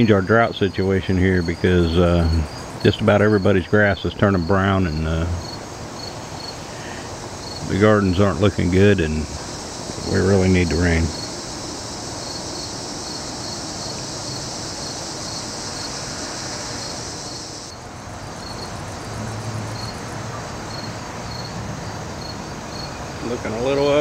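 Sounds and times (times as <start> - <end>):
continuous high insect buzz: 0.0 - 24.0
crickets chirping: 0.0 - 24.0.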